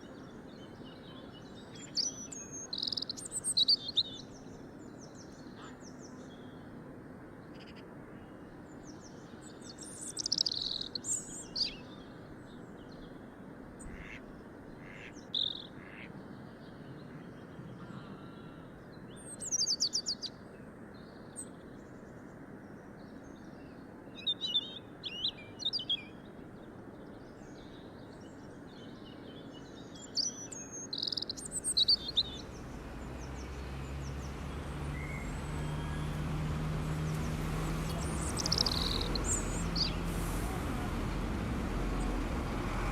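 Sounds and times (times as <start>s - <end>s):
songbirds chirping and trilling: 0.0s - 6.8s, 7.4s - 42.9s.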